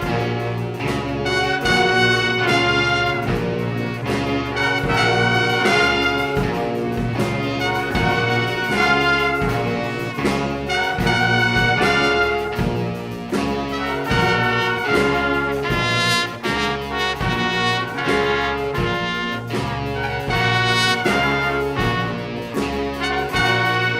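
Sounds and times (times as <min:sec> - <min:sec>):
live brass ensemble music: 0:00.0 - 0:23.9
trombone: 0:00.0 - 0:23.9
trumpet: 0:00.0 - 0:23.9.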